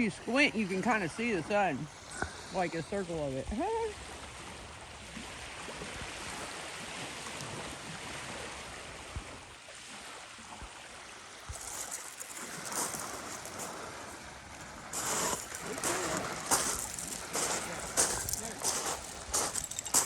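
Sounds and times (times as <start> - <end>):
moving water: 0.0 - 20.0.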